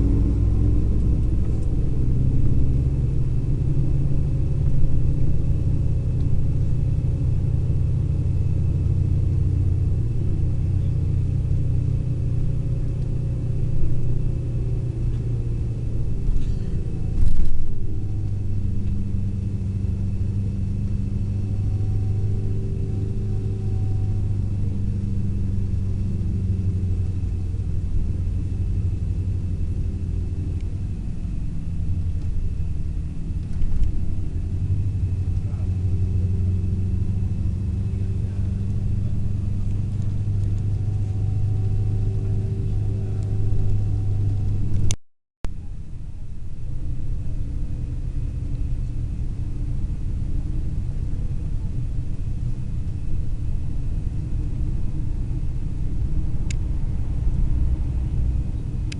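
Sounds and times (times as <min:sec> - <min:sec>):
coach engine drone: 0:00.0 - 0:58.9
road rumble: 0:00.0 - 0:58.9.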